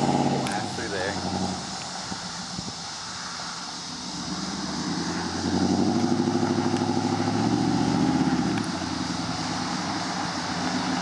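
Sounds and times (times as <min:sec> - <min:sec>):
pickup truck exhaust drone: 0:00.0 - 0:11.0.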